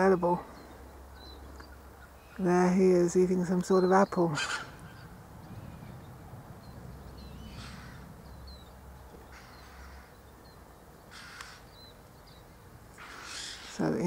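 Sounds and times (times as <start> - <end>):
harsh bird calls: 0.0 - 14.0
small birds chirping: 0.0 - 14.0.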